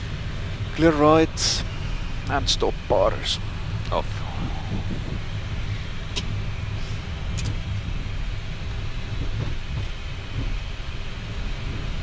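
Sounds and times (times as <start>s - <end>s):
aircraft engines idling rumble: 0.0s - 12.0s.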